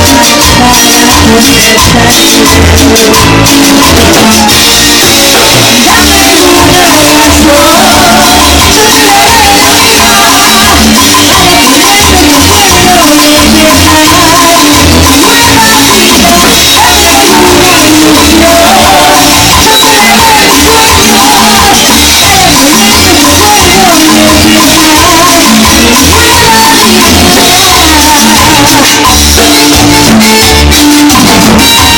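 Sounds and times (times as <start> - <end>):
bass beat: 0.0 - 31.9
latin-style music: 0.0 - 31.9
person singing: 0.0 - 31.9.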